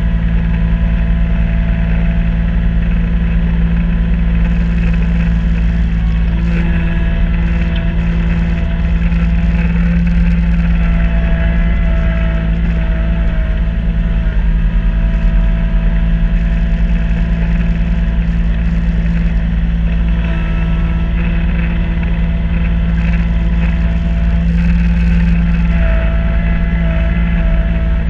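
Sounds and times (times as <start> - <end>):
snow blower whine: 0.0 - 28.0
tractor diesel engine running: 0.0 - 28.0.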